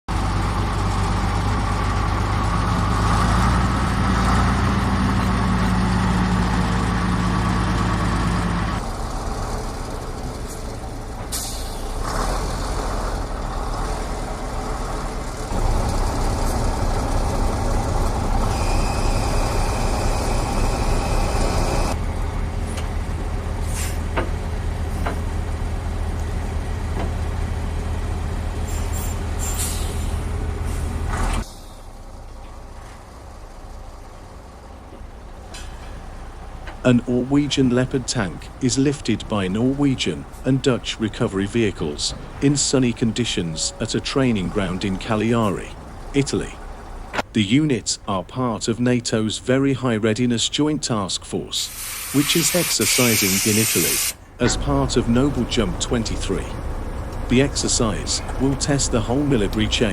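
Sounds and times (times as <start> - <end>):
heavy vehicle engines running: 0.1 - 59.9.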